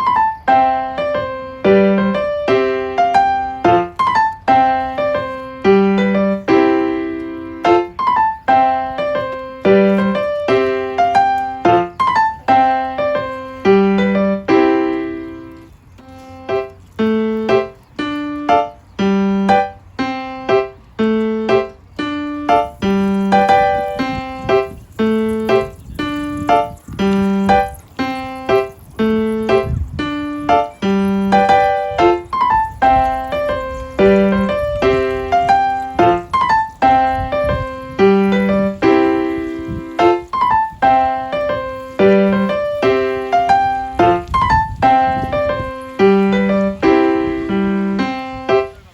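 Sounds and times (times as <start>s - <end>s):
piano melody: 0.0s - 48.9s.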